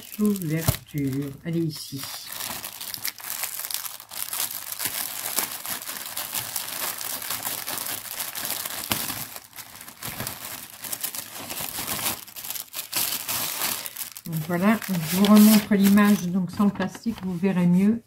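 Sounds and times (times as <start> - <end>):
plastic wrapping crinkling: 0.0 - 17.9.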